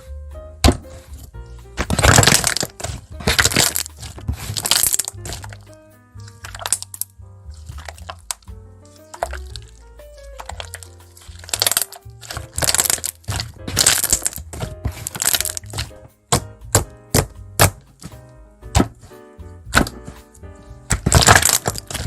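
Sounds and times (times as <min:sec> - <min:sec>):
jazz background music: 0:00.0 - 0:22.0
brittle crackling and crunching: 0:00.7 - 0:18.2, 0:19.8 - 0:22.0.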